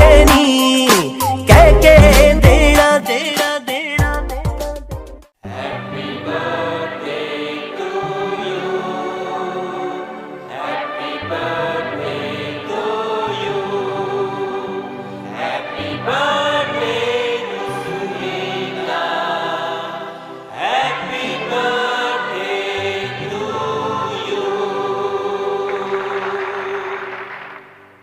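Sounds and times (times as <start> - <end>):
music with singing voices: 0.0 - 28.0.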